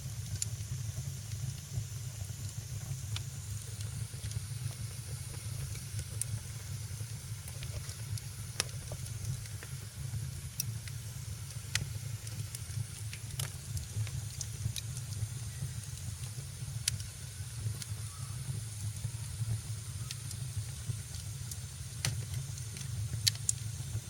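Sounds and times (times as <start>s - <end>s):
fire crackling with sharp pops: 0.0s - 24.0s
low fire rumble: 0.0s - 24.0s
soft hiss: 0.0s - 24.0s.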